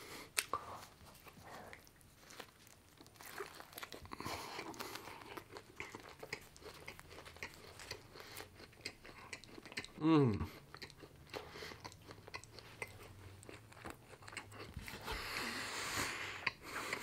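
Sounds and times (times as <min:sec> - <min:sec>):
person chewing crunchy burger: 0:00.2 - 0:17.0.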